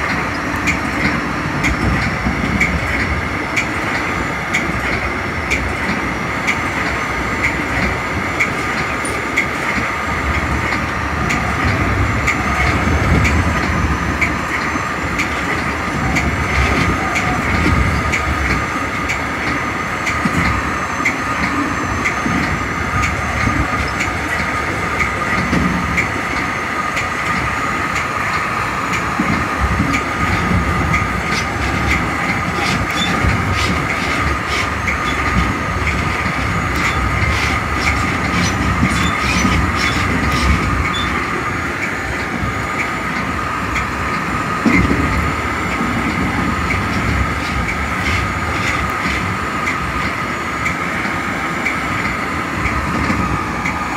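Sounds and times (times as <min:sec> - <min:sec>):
train wheels rumbling on rail: 0:00.0 - 0:53.9
wheels clattering over rail joints: 0:00.0 - 0:53.9.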